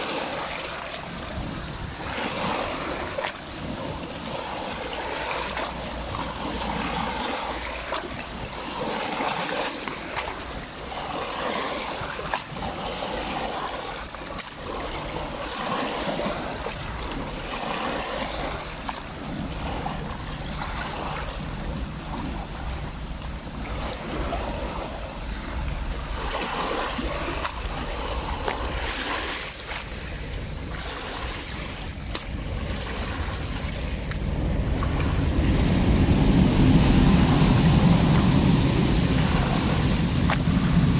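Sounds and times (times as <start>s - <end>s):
small waves washing in: 0.0s - 40.9s
wind rumbling on microphone: 0.0s - 40.9s.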